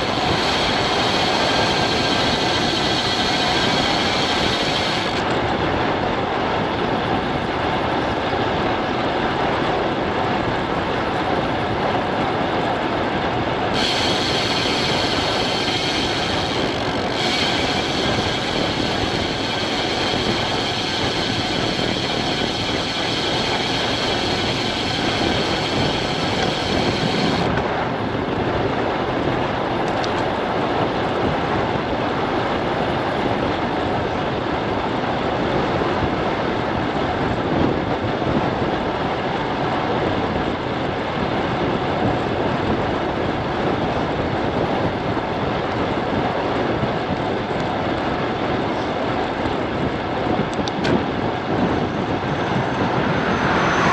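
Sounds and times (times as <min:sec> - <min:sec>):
bike tyres rolling on asphalt: 0:00.0 - 0:53.9
wind rushing over microphone: 0:00.0 - 0:53.9.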